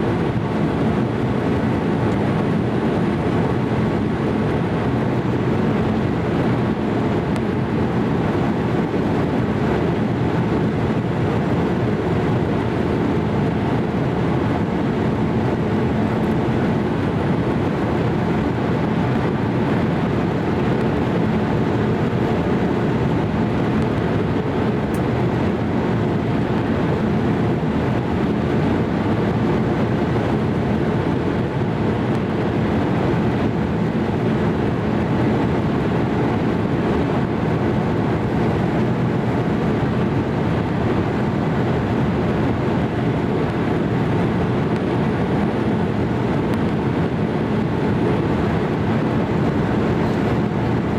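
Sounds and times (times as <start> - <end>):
airliner cabin drone: 0.0 - 50.9.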